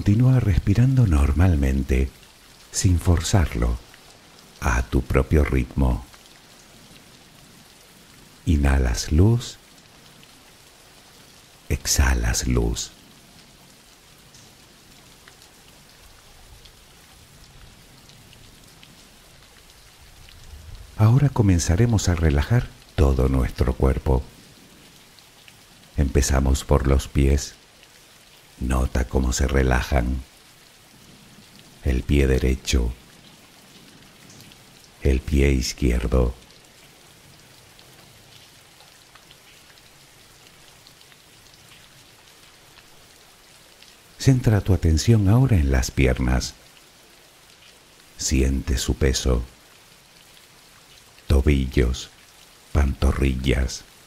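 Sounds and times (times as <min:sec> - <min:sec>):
steady rain falling: 0:00.0 - 0:54.0
single raindrops ticking: 0:00.8 - 0:54.0.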